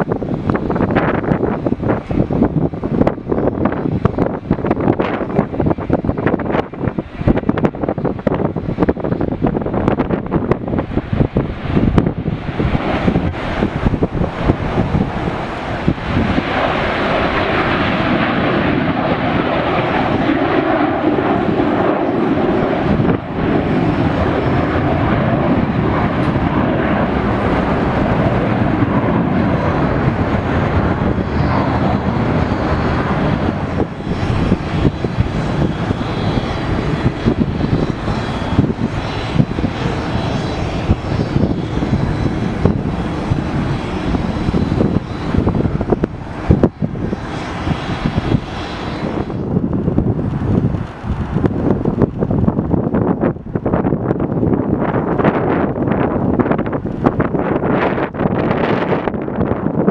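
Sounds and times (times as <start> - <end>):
jet engines at takeoff power: 0.0 - 59.9.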